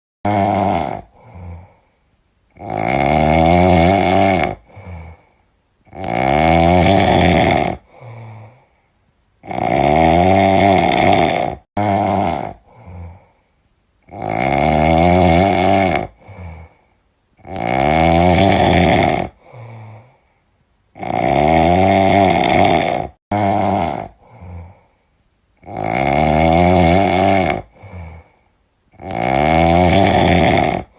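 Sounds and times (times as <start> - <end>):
cat snoring: 0.3 - 1.8, 2.5 - 5.3, 5.9 - 8.6, 9.4 - 13.3, 14.0 - 16.8, 17.4 - 20.2, 20.9 - 24.8, 25.6 - 28.3, 28.9 - 30.9.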